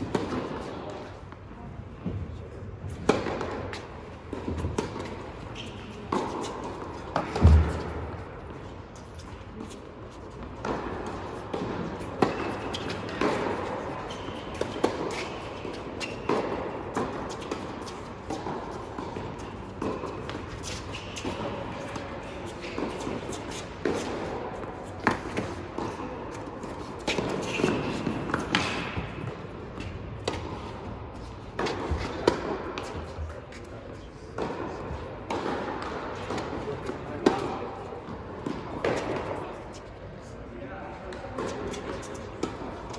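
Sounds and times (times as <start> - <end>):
tennis balls bouncing on hard court: 0.0 - 1.4, 2.9 - 33.7, 34.4 - 39.8, 41.1 - 42.9
tennis balls struck by racquets: 0.0 - 1.4, 2.9 - 9.8, 10.4 - 33.6, 34.3 - 39.8, 41.1 - 42.9.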